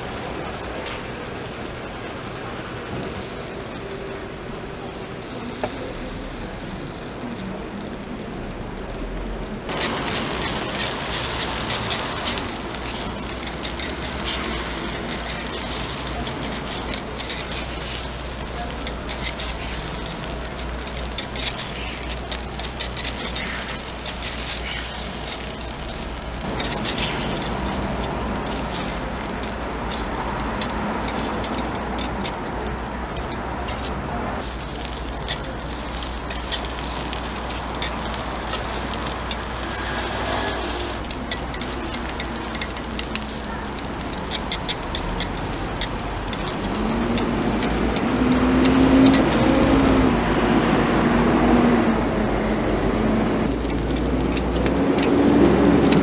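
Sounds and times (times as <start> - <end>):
food sizzling in a pan: 0.0 - 56.0
road traffic hum: 0.0 - 56.0.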